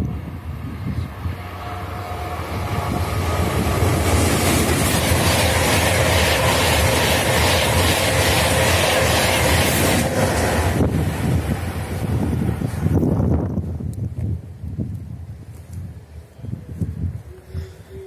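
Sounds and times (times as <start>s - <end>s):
high-speed train passing: 0.0s - 14.7s.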